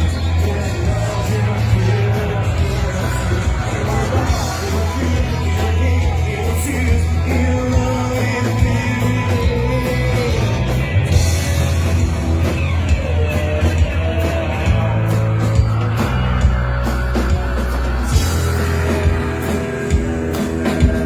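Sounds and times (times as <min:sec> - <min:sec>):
person singing: 0:00.0 - 0:21.0
rock band playing: 0:00.0 - 0:21.0.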